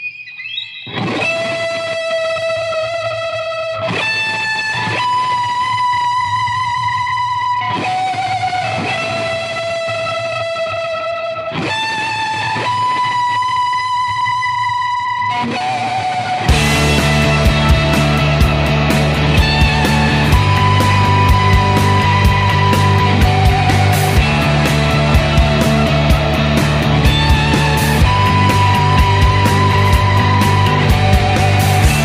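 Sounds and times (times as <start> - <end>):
electric guitar ringing notes: 0.0 - 32.0.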